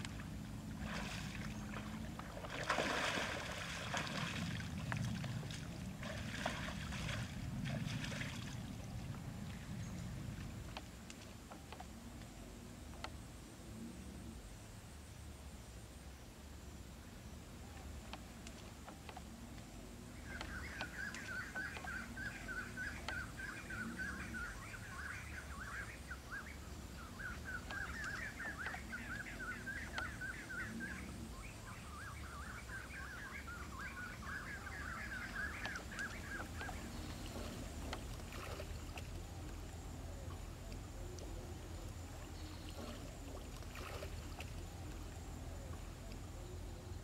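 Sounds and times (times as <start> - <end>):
low outdoor rumble: 0.0 - 47.0.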